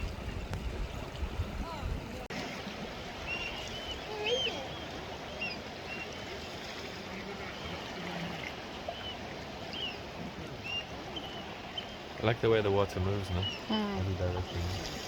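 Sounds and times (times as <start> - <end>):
sea water washing on shore: 0.0 - 15.0.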